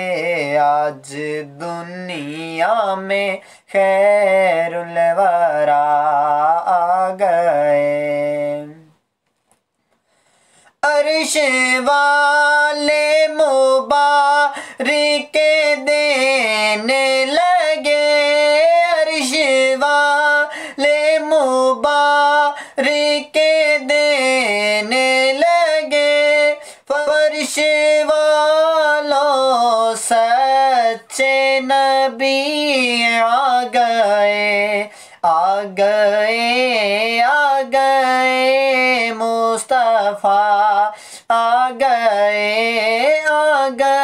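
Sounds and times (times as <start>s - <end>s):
person singing unaccompanied: 0.0s - 9.0s, 10.7s - 44.0s.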